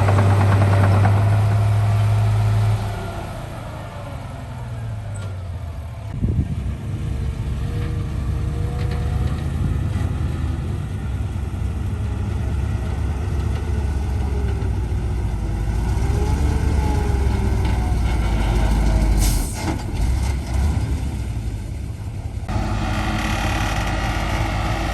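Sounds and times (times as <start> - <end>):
heavy diesel engine running: 0.0 - 24.9.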